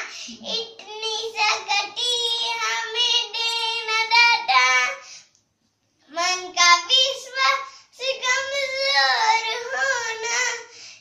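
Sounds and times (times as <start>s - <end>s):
child singing: 0.0s - 5.0s, 6.1s - 10.7s.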